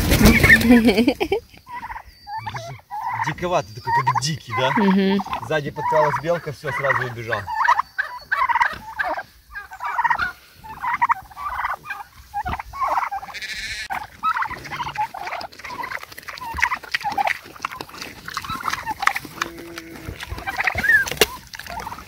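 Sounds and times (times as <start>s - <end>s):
farm animals calling: 0.0s - 22.0s.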